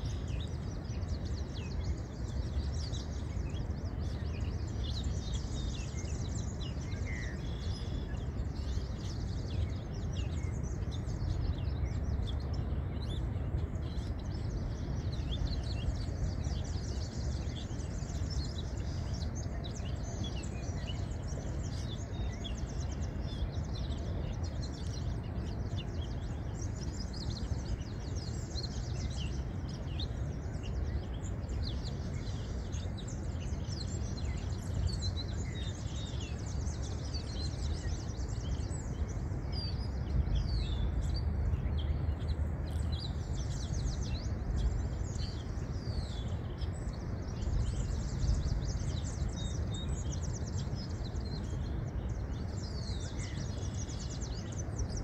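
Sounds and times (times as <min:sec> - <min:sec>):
birds chirping: 0:00.0 - 0:55.0
low outdoor rumble: 0:00.0 - 0:55.0.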